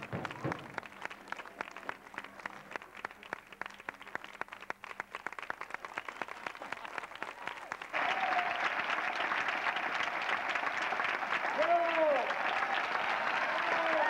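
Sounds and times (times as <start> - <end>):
audience clapping: 0.0 - 14.0.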